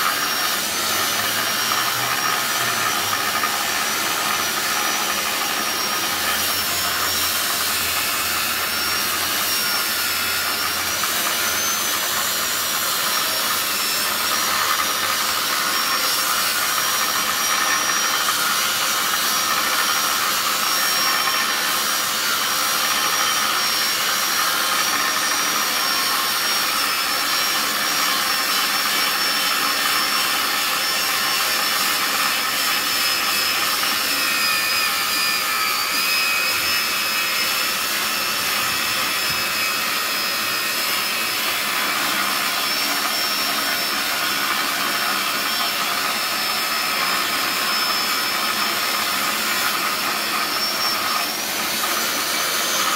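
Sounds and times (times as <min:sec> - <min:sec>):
saw disc cutting steel: 0:00.0 - 0:52.9.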